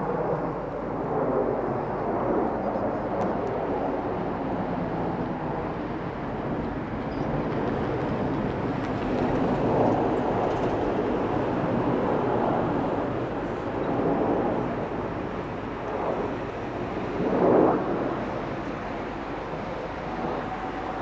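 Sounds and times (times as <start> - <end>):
distant jet aircraft rumble: 0.0 - 21.0.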